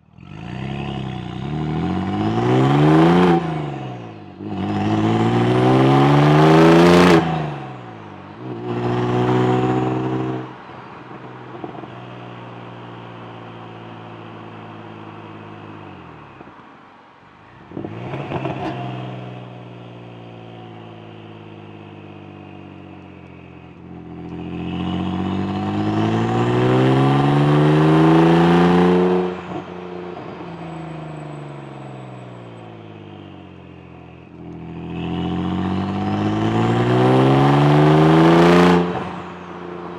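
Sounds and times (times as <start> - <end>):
car engine revving: 0.0 - 16.7, 17.4 - 39.9.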